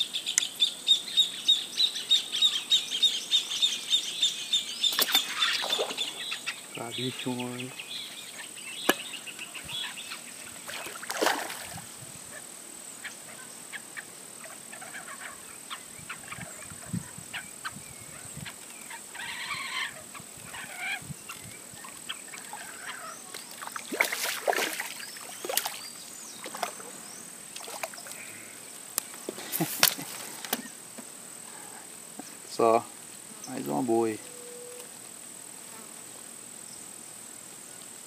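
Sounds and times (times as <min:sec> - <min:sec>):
bird calls: 0:00.0 - 0:30.8, 0:33.4 - 0:34.9.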